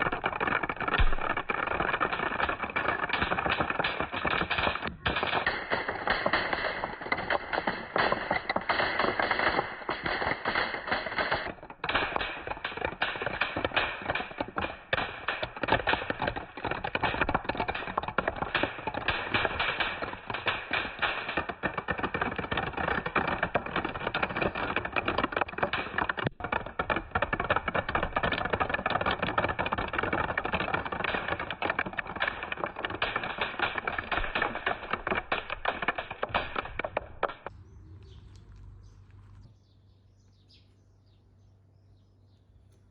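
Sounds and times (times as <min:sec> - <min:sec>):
marbles clattering down a track: 0:00.0 - 0:39.5.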